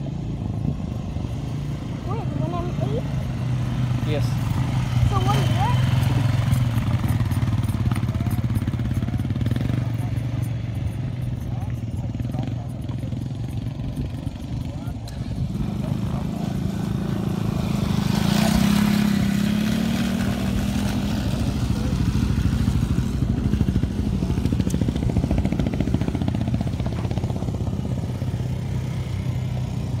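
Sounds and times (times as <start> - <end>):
small off-road engines humming: 0.0 - 30.0.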